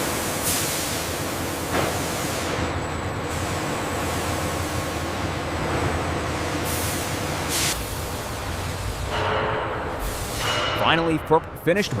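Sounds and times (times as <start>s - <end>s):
industrial machinery hum: 0.0s - 12.0s.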